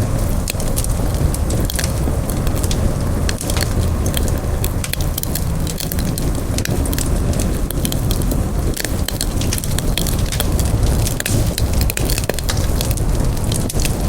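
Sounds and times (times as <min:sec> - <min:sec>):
campfire flames rumbling: 0:00.0 - 0:14.0
fire crackling and popping: 0:00.0 - 0:14.0.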